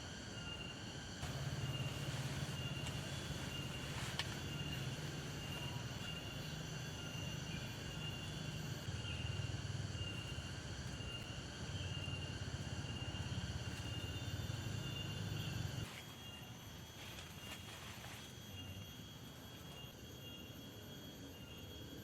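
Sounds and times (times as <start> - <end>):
insects chirping at night: 0.0 - 22.0.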